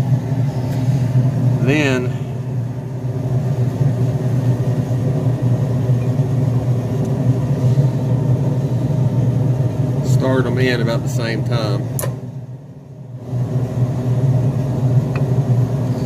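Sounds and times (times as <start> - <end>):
machine droning: 0.0 - 16.0.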